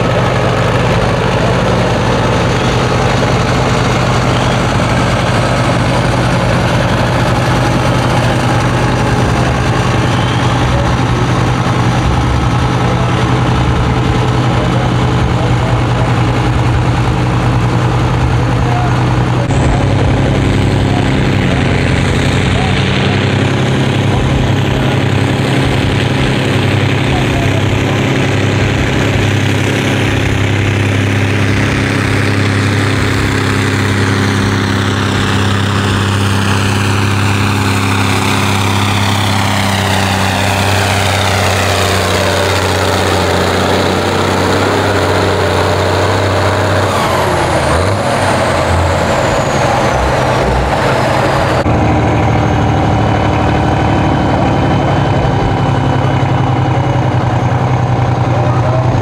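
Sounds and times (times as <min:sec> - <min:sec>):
tractor engine running hard: 0:00.0 - 0:59.0.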